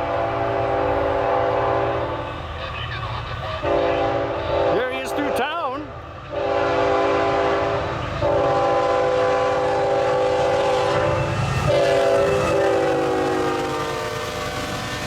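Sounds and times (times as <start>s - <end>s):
locomotive air horn blasts: 0.0s - 2.4s, 3.6s - 5.6s, 6.3s - 15.0s
freight train rumble: 0.0s - 15.0s.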